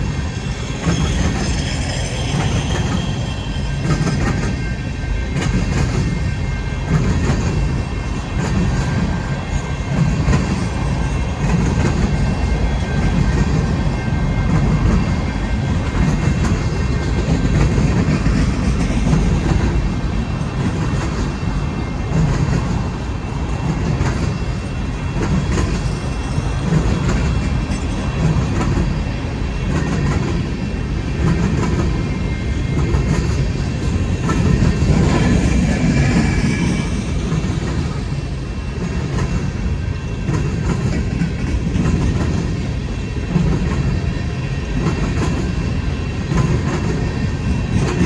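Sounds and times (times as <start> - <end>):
train cars rumbling past: 0.0 - 48.0.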